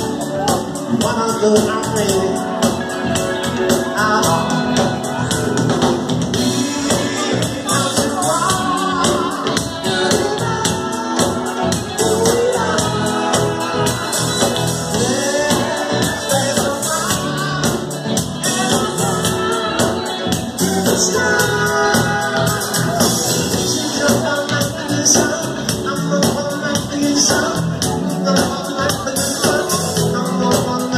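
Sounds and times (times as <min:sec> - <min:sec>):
drum beat: 0:00.0 - 0:30.9
lead singer singing: 0:00.0 - 0:30.9
live band playing: 0:00.0 - 0:30.9.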